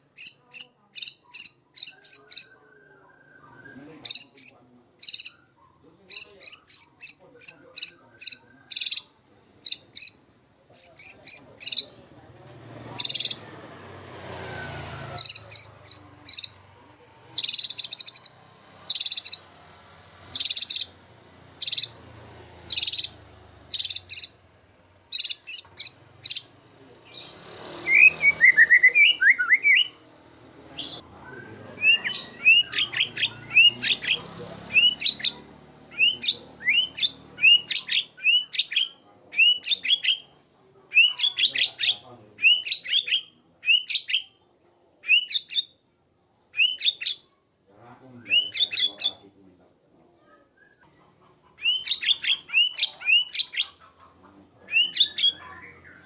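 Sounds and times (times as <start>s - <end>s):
bird singing varied song: 0.0s - 44.4s, 45.0s - 45.8s, 46.5s - 49.4s, 50.0s - 56.0s.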